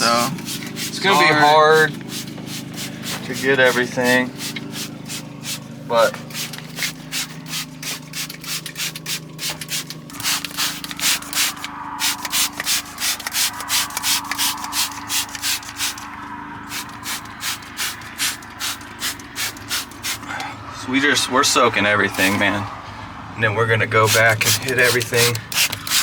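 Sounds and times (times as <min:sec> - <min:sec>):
spray bottle squirting: 0:00.0 - 0:20.3, 0:22.1 - 0:22.4, 0:24.0 - 0:26.0.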